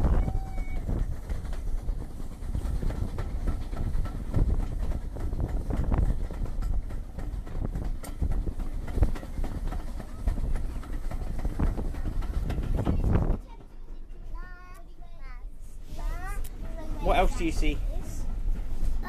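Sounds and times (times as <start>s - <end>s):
wheels rumbling on track: 0.0s - 19.0s.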